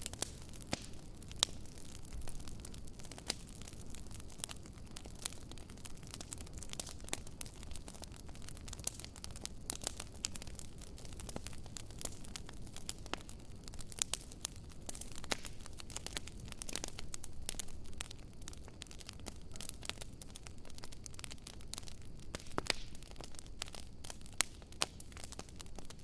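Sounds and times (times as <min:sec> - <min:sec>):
wood crackling and popping: 0:00.0 - 0:26.0.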